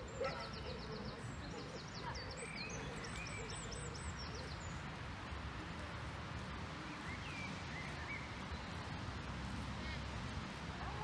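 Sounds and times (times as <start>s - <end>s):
small songbirds chirping: 0.0s - 10.6s.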